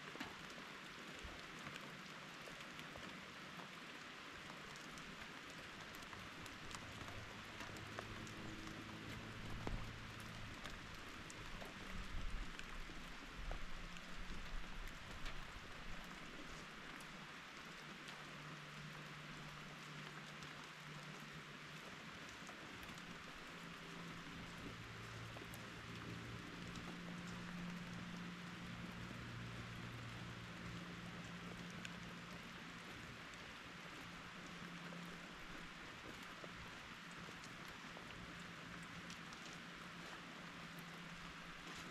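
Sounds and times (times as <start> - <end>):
rain falling: 0.0 - 41.9
sharp drip ticks: 0.1 - 41.9.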